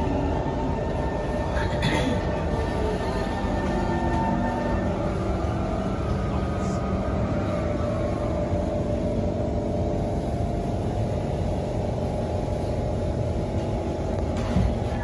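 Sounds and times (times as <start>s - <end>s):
train car rumble and hum: 0.0s - 15.0s.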